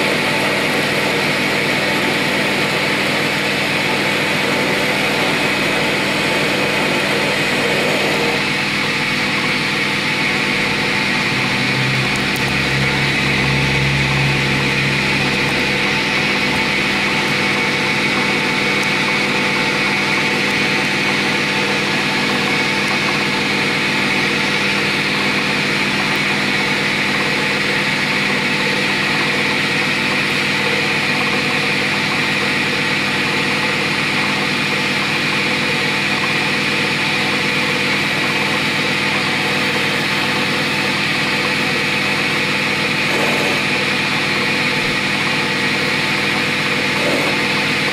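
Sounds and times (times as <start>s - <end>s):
metal lathe whine and hum: 0.0s - 47.9s.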